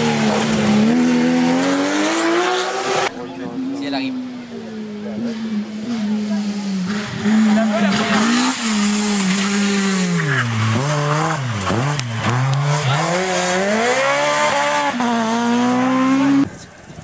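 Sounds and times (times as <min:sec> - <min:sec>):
rally car engine passing at high revs: 0:00.0 - 0:16.6.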